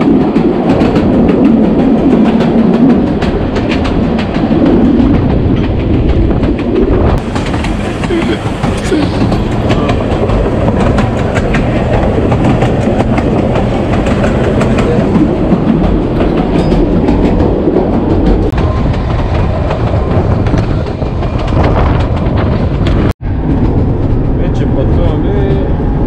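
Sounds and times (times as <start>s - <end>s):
wheels clacking over track joints: 0.0s - 25.8s
train wheels rumbling on rails: 0.0s - 26.0s.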